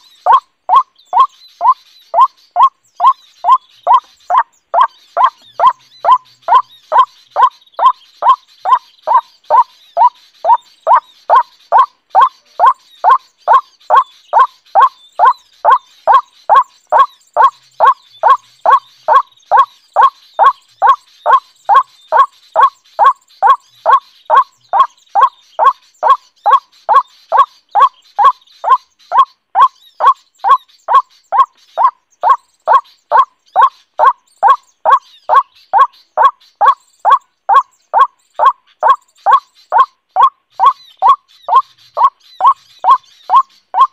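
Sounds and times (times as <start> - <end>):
recorded bird calls from speaker: 0.0 - 43.9.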